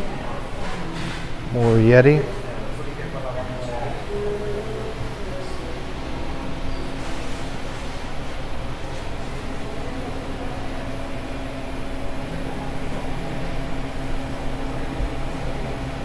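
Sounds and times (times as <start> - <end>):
cooling equipment hum: 0.0 - 16.0.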